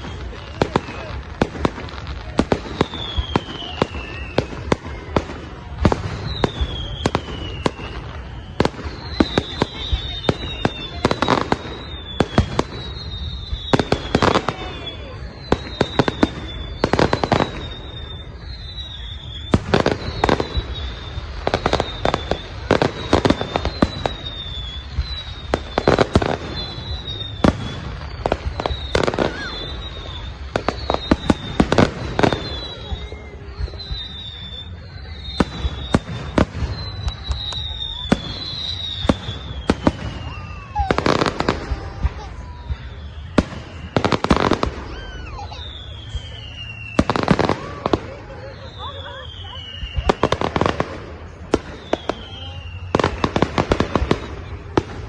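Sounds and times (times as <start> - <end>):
falling firework whistles: 0.0 - 55.0
fireworks banging: 0.0 - 55.0.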